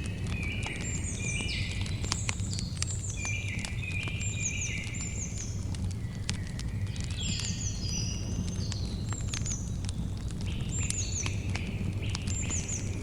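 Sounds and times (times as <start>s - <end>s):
birds chirping: 0.0s - 13.0s
campfire crackling and popping: 0.0s - 13.0s.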